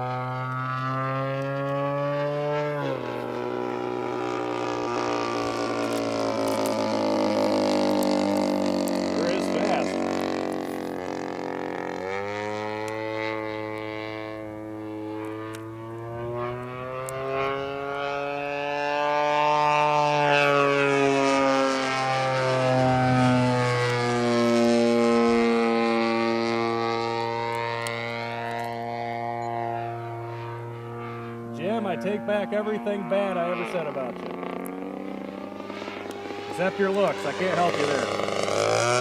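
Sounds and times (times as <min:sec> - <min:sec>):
model plane engine droning: 0:00.0 - 0:39.0.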